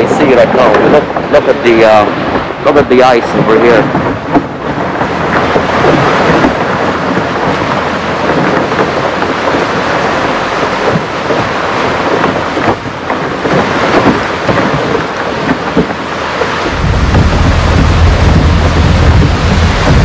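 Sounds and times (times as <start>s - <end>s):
boat hull crunching through ice: 3.2s - 20.0s.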